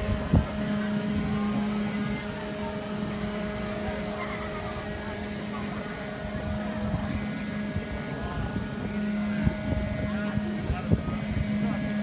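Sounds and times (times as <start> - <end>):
crowd murmuring: 0.0 - 12.0
elevator machinery humming: 0.0 - 12.0
high warning tone: 0.0 - 12.0.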